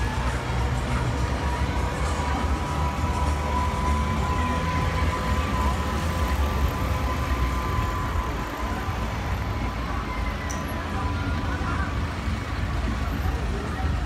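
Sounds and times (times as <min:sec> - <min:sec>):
thin steady whine: 0:00.0 - 0:12.6
traffic engine rumble: 0:00.0 - 0:14.0
tram passing: 0:00.0 - 0:14.0.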